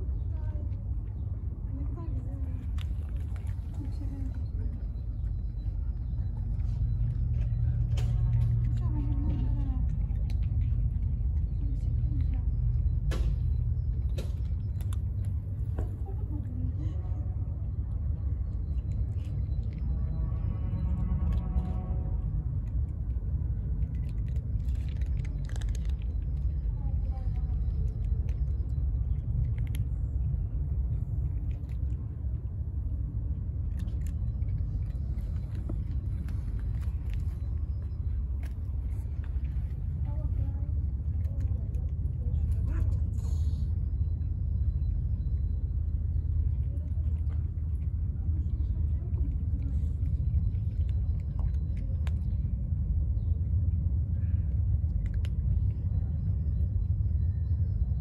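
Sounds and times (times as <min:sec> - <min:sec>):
cats crunching dry kibble: 0:00.0 - 0:58.0
steady low rumble: 0:00.0 - 0:58.0.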